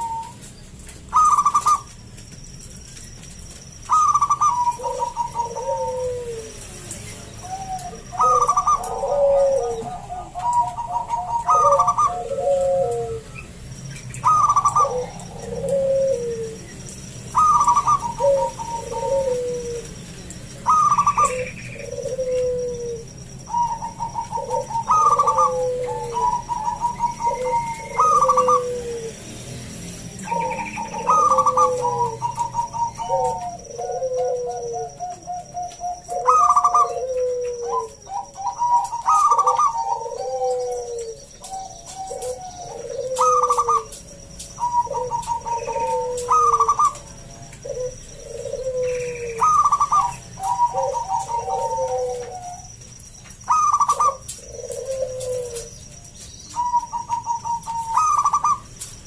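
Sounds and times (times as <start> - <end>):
dove cooing with trill: 0.0 - 59.0.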